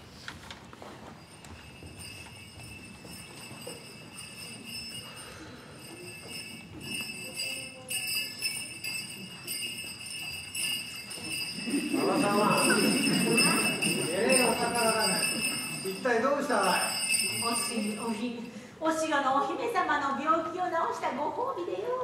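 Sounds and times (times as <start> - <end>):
small bells jingling: 0.8 - 20.1.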